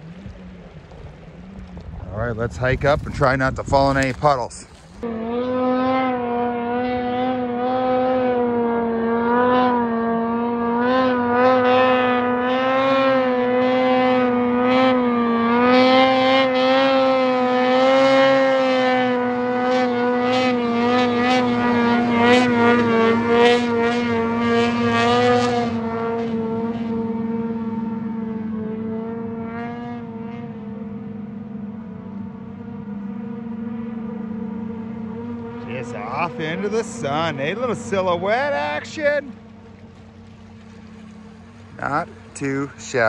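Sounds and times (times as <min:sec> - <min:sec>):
snowmobile engine whining: 0:00.0 - 0:43.0.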